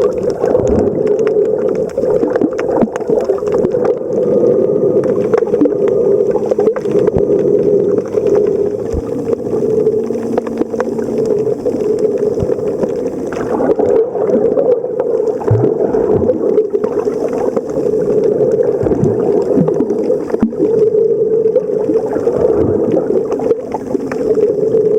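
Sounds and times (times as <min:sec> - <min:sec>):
gurgles: 0:00.0 - 0:24.9
underwater clicks: 0:00.0 - 0:24.9
underwater rushing hum: 0:00.0 - 0:24.9.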